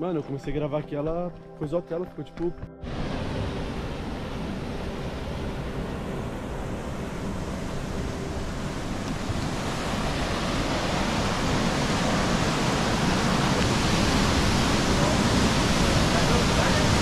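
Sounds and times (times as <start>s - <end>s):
rushing river water: 2.8s - 17.0s.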